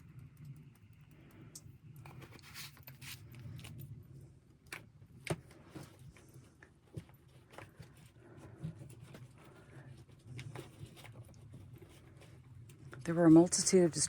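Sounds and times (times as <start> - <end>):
rustling of items handled: 2.0 - 14.0.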